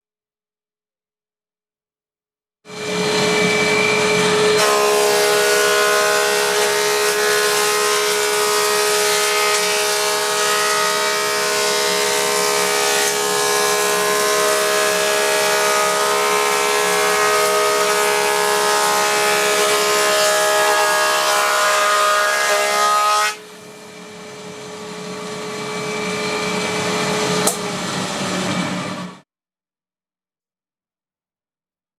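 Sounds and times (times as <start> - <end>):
planer cutting timber: 2.7 - 29.2
planer thicknesser whining: 2.7 - 29.2.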